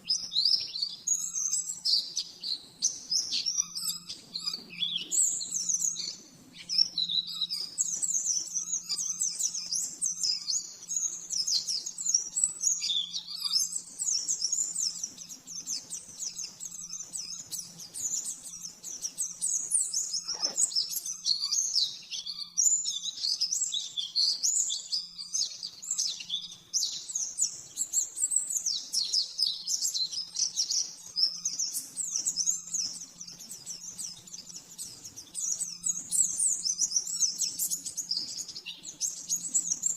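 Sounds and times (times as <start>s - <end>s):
bird twittering chirps and trills: 0.0s - 39.9s.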